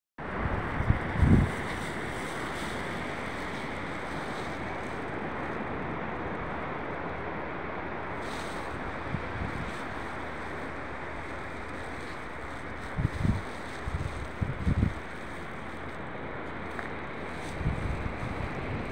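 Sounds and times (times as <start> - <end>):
ocean surf rushing: 0.2 - 18.9
wind noise on microphone: 0.2 - 18.9.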